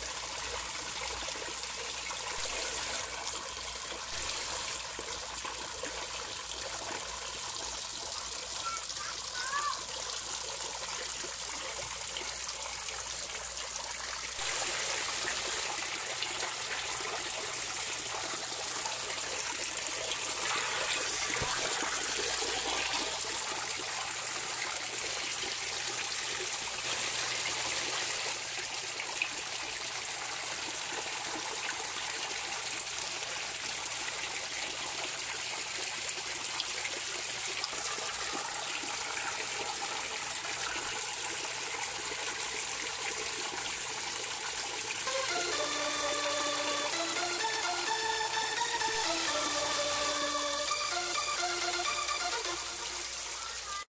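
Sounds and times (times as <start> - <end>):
water running and trickling: 0.0 - 53.9.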